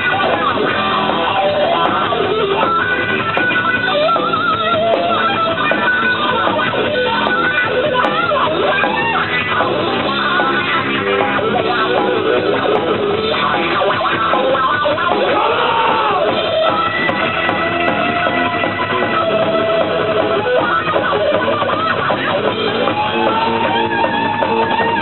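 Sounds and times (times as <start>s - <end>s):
punk rock band playing live: 0.0s - 25.0s.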